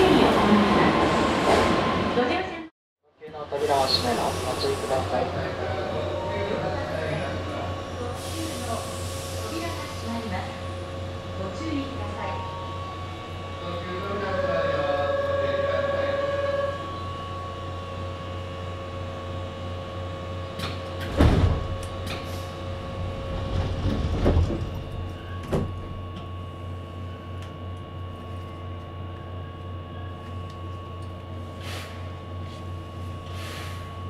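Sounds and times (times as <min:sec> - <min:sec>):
train interior hum: 0:03.7 - 0:34.0.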